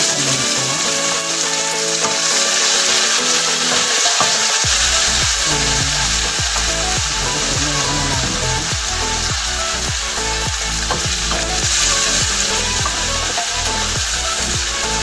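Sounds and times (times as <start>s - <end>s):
background music with steady beat: 0.0s - 15.0s
onions and tomatoes sizzling: 0.0s - 15.0s.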